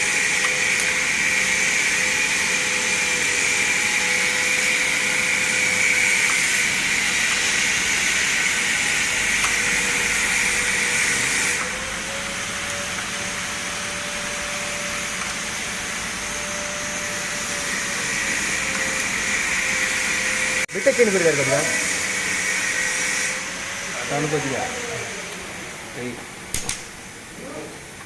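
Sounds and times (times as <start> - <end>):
machine whirring: 0.0 - 26.8.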